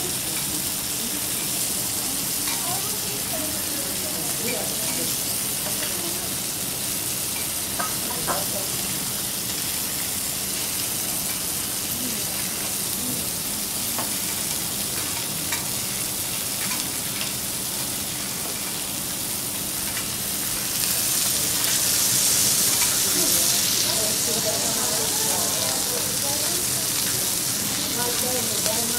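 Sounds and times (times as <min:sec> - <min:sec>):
meat sizzling on a griddle: 0:00.0 - 0:28.9.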